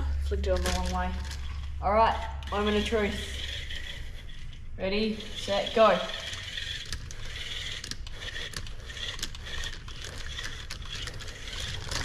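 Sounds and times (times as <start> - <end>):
tyres clicking and scraping: 0.0 - 12.0
toy car motor whining: 0.5 - 12.0.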